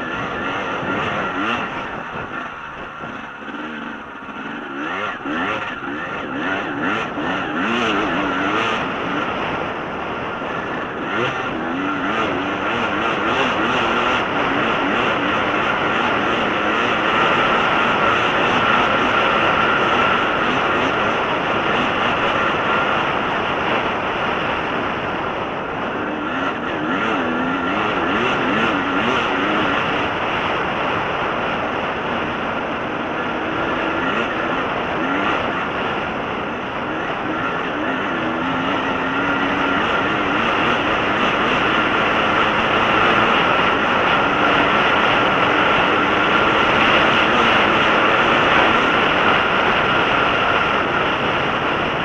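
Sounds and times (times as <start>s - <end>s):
dirt bike engine running: 0.0s - 52.0s
wind and tyre noise: 0.0s - 52.0s.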